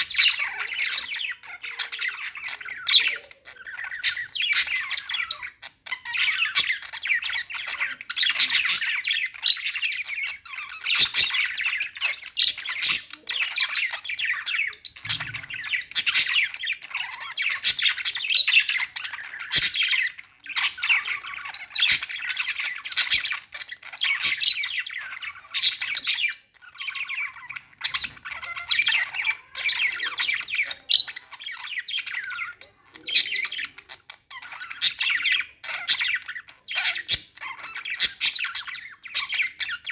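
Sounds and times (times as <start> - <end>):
budgie squawks and chirps: 0.0 - 39.9
budgies chattering: 0.0 - 39.9.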